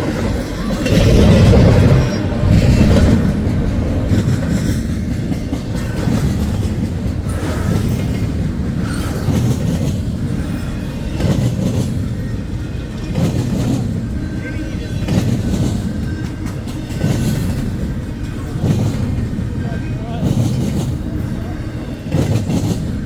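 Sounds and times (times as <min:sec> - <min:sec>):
freight train rumbling: 0:00.0 - 0:23.0
wheels clacking over rail joints: 0:00.0 - 0:23.0.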